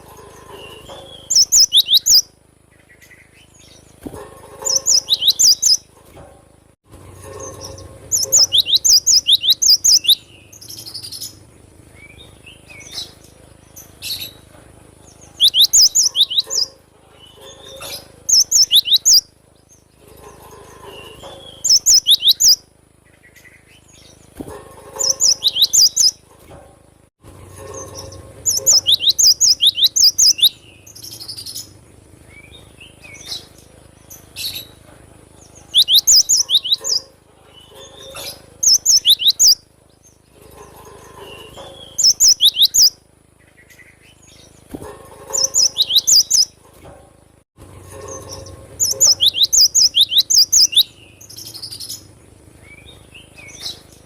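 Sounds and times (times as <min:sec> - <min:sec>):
soft bird calls: 0:00.0 - 0:06.0, 0:07.2 - 0:26.4, 0:27.6 - 0:46.8, 0:47.9 - 0:54.0.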